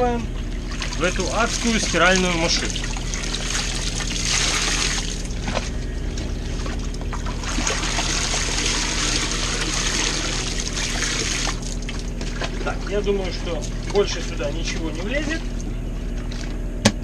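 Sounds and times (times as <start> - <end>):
water trickling and splashing: 0.0 - 16.4
laundry dripping: 0.0 - 16.5
low machine hum: 0.0 - 17.0.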